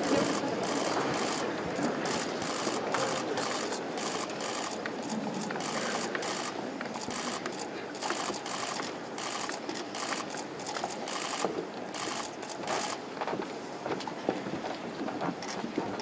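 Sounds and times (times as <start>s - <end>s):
camera shutters clicking: 0.0s - 13.0s
background hubbub: 0.0s - 16.0s.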